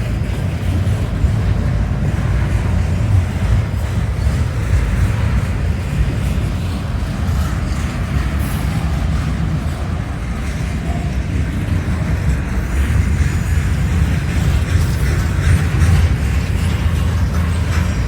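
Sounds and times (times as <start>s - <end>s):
train rolling past on rails: 0.0s - 18.0s.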